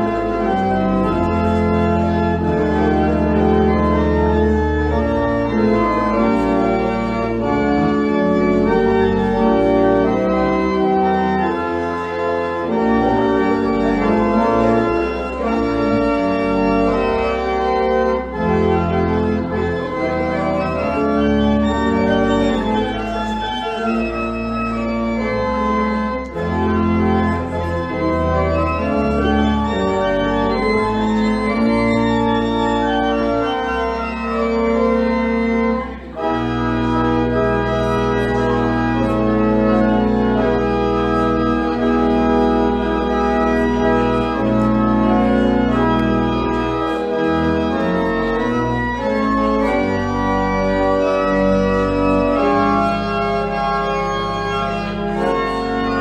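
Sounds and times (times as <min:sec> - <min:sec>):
organ playing chords: 0:00.0 - 0:56.0.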